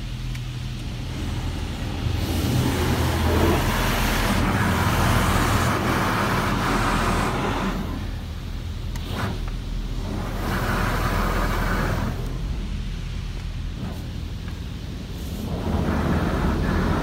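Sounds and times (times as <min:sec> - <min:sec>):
car wash spray hissing on car: 0:00.0 - 0:17.0
steady low hum: 0:00.0 - 0:17.0.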